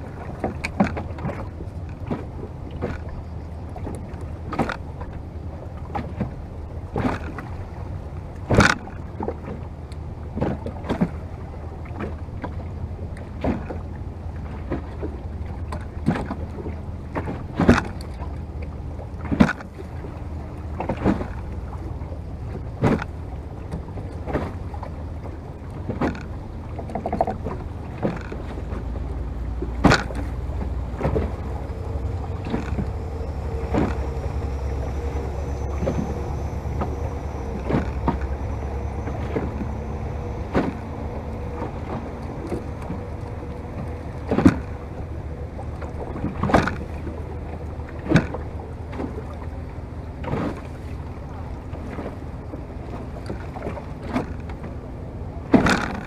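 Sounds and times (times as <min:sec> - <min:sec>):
motor boat engine hum: 0:00.0 - 0:56.0
rushing water and wind: 0:00.0 - 0:56.0
water slapping boat hull: 0:00.0 - 0:56.0.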